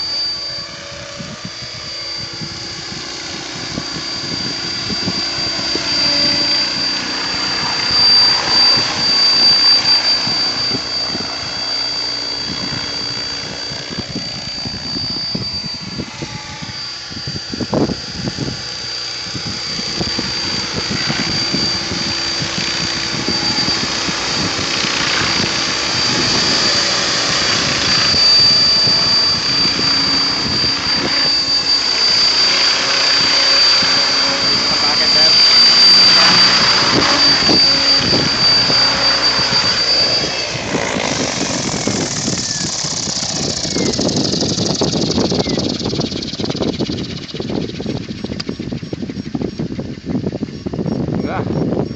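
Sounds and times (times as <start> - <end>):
model helicopter motor whine: 0.0 - 51.9
rotor blades rushing: 0.0 - 51.9.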